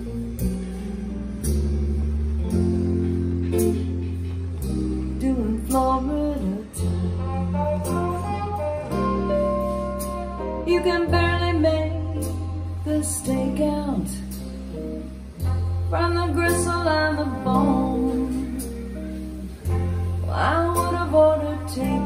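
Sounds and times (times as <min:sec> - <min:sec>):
bass and guitar chords: 0:00.0 - 0:22.0
melody line bending notes: 0:00.0 - 0:22.0
recorded song over loudspeakers: 0:02.4 - 0:22.0.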